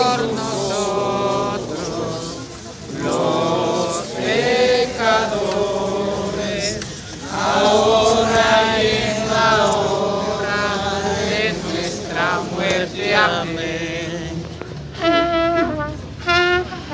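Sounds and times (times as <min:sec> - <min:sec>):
group singing a hymn: 0:00.0 - 0:14.7.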